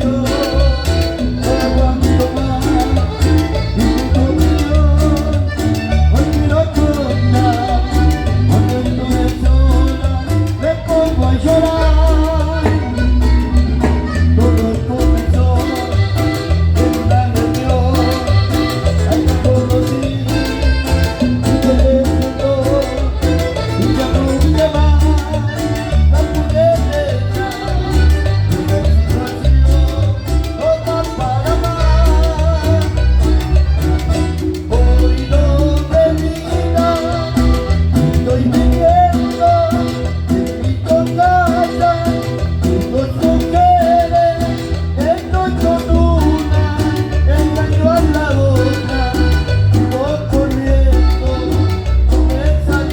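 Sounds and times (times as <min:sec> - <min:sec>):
latin dance band playing: 0:00.0 - 0:52.9
thumping bass beat: 0:00.0 - 0:52.9.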